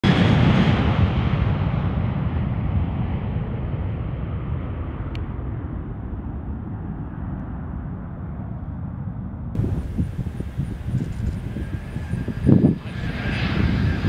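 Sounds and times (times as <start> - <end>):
jet engines rumbling at take-off: 0.0 - 14.0.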